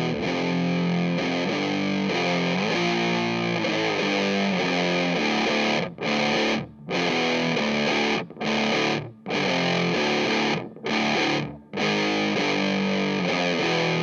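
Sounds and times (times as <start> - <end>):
fuzzed electric guitar chords: 0.0 - 14.0.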